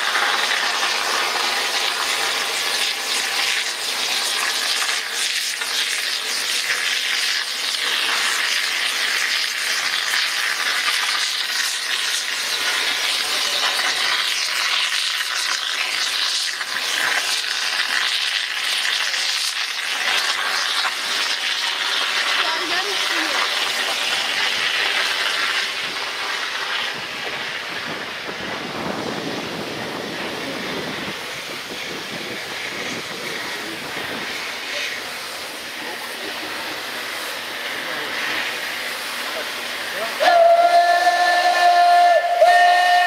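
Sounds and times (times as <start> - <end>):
steam hissing from locomotive: 0.0 - 43.0.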